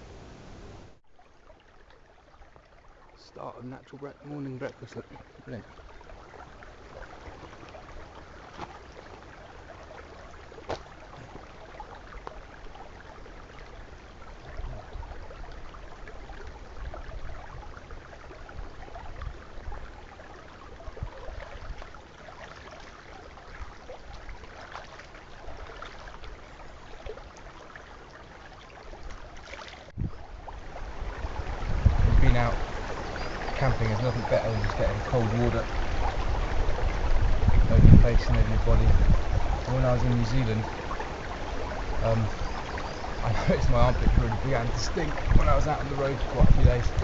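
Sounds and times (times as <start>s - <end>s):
stream trickling over stones: 1.0s - 47.0s.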